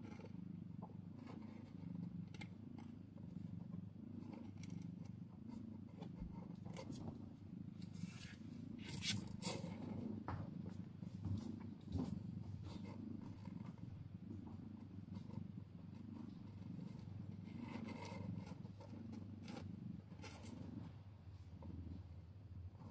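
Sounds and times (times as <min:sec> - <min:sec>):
cat purring: 0:00.0 - 0:22.9.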